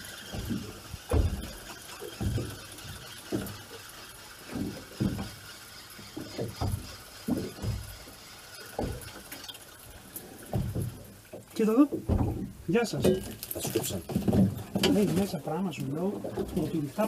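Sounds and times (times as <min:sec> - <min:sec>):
waves slapping boat hull: 0:00.0 - 0:17.0.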